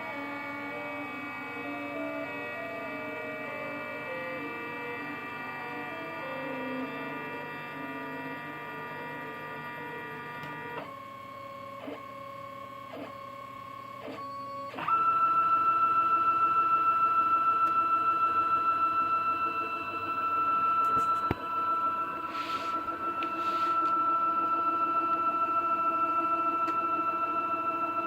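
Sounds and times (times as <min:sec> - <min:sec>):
stepper motors whining: 0:00.0 - 0:15.4, 0:17.7 - 0:27.4.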